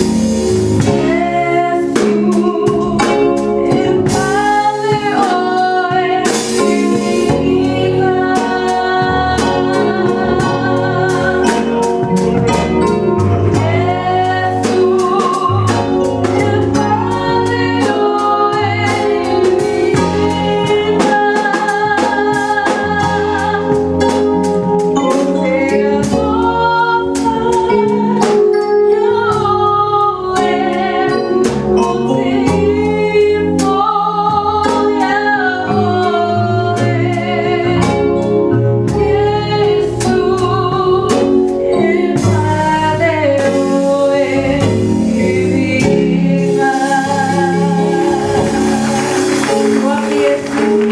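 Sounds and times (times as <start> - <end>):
drum kit beat: 0.0 - 50.9
electronic keyboard: 0.0 - 50.9
woman singing: 0.8 - 24.4, 25.0 - 50.9.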